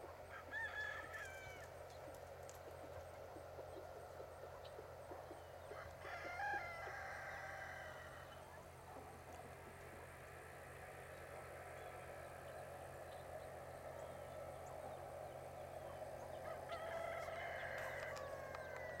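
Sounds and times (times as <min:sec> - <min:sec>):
chickens calling: 0:00.0 - 0:19.0.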